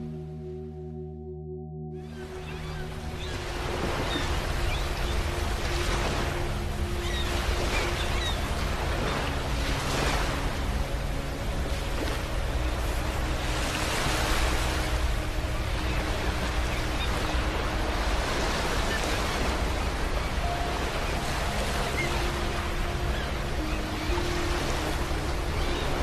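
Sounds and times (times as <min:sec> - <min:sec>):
deep rumble of surf: 0:02.2 - 0:26.0
waves breaking on a beach: 0:02.2 - 0:26.0.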